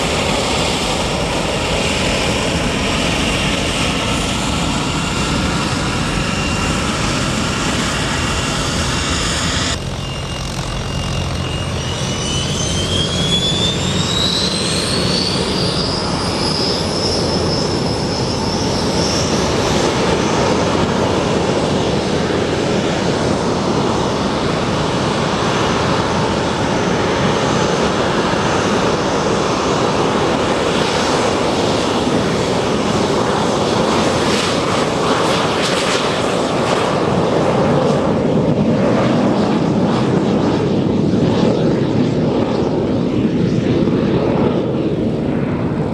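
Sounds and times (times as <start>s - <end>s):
jet engine whine: 0.0s - 45.9s
rushing jet roar: 0.0s - 45.9s.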